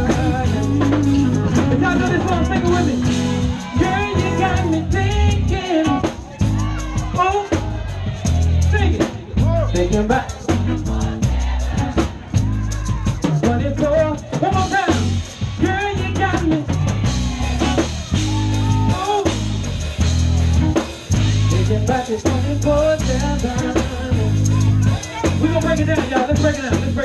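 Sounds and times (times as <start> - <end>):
man singing: 0.0 - 19.7, 20.6 - 27.0
deep bass line: 0.0 - 27.0
drum kit steady beat: 0.0 - 27.0
soul band playing loudly: 0.0 - 27.0.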